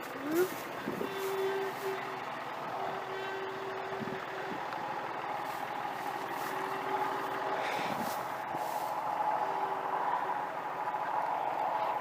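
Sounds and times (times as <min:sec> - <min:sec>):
distant engine running: 0:00.0 - 0:12.0.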